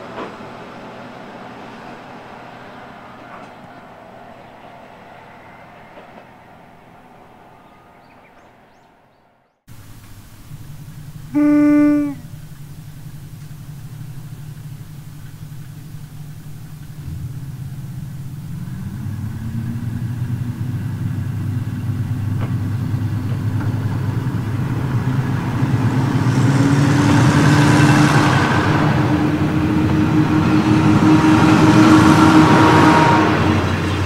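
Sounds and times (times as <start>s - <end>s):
diesel railcar engine drone: 0.0s - 34.0s
wheel and rail noise: 0.0s - 34.0s.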